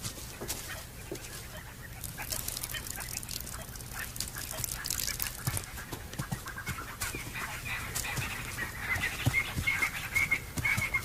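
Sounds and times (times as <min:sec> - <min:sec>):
wild dogs twittering calls: 0:00.7 - 0:11.0.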